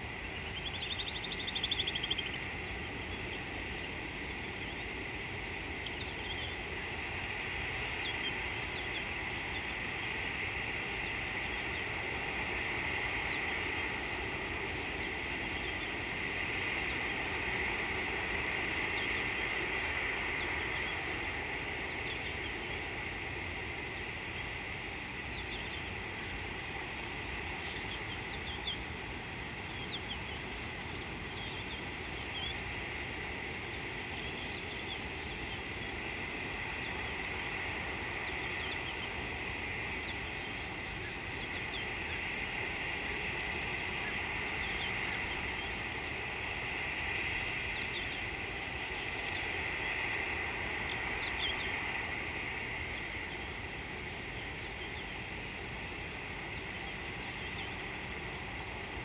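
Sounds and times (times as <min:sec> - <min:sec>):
lower insect chorus: 0:00.0 - 0:59.0.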